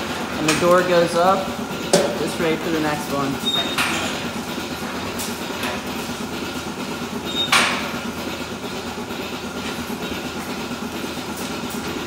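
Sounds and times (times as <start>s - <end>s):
milking machinery humming: 0.0s - 12.0s.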